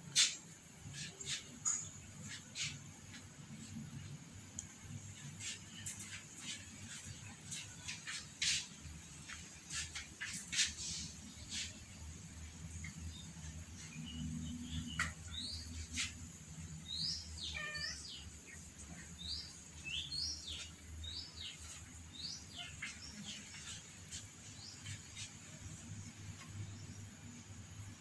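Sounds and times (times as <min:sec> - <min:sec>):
small birds chirping: 0:00.1 - 0:28.0.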